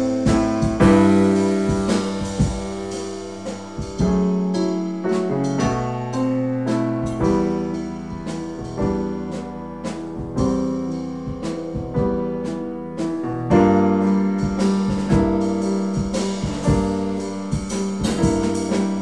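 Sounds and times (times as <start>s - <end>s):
piano chords ringing: 0.0s - 19.0s.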